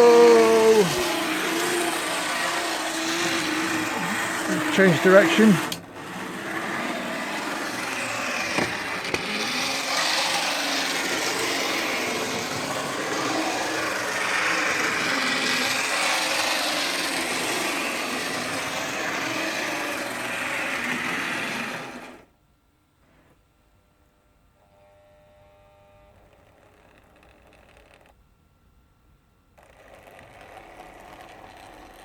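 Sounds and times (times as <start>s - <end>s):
model train motor whirring: 0.0s - 22.3s, 26.0s - 28.2s, 29.6s - 32.0s.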